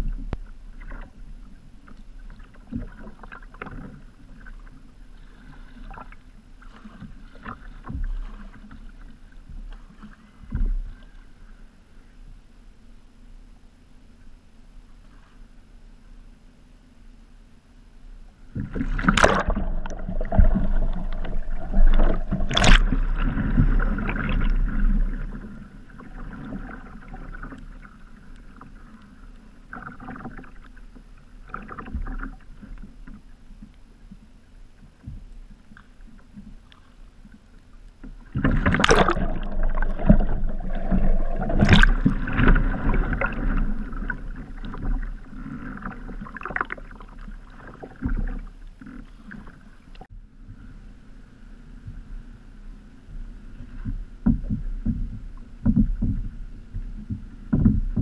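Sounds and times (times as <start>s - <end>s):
water splashing and churning: 0.0s - 11.8s, 18.3s - 58.0s
water lapping: 0.0s - 12.3s, 18.3s - 58.0s.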